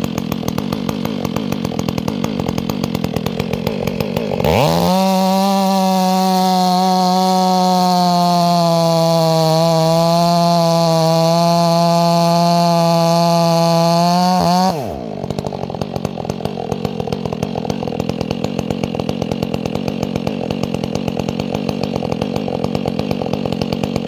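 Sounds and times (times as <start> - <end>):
chainsaw running: 0.0 - 24.0.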